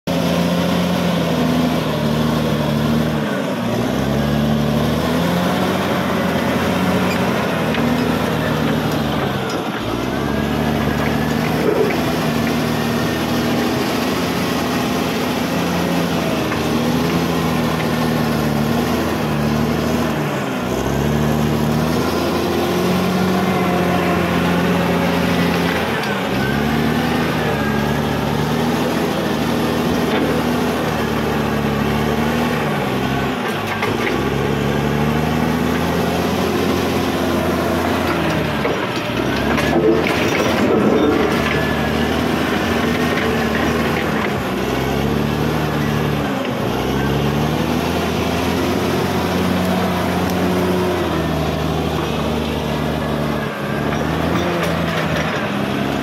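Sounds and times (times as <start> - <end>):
bulldozer diesel engine running hard: 0.0 - 56.0.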